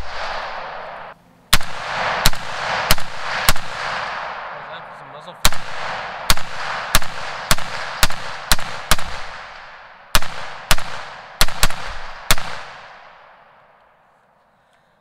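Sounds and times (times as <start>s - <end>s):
rifle shots echoing: 0.0s - 13.8s.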